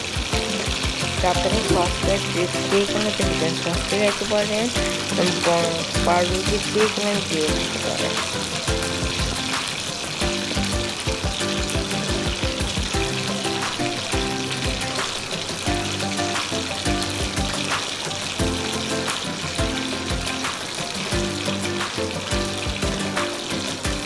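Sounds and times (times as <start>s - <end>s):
background music with steady beat: 0.0s - 24.0s
hot oil sizzling: 0.0s - 24.0s.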